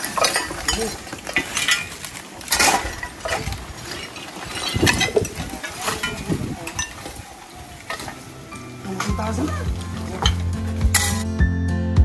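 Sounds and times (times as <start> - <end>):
rubbish clinking and scraping: 0.0 - 11.3.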